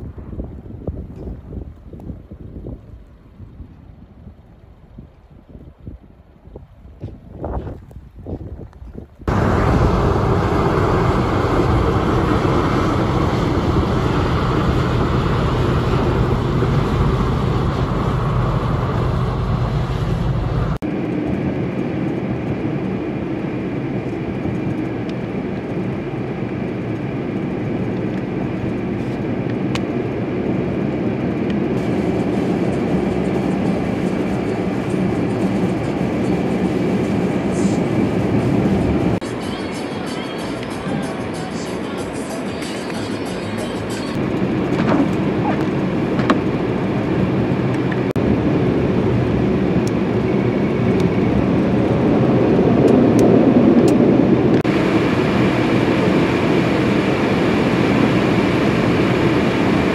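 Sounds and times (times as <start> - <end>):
car road noise on snow: 0.0 - 59.9.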